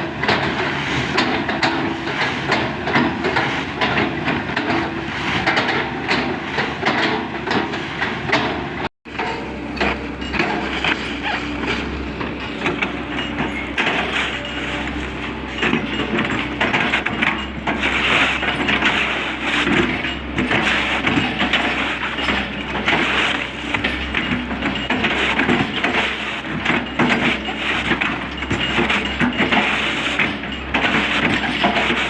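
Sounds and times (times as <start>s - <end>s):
clanks creaks and crunching: 0.0s - 32.0s
excavator engine humming: 0.0s - 32.0s.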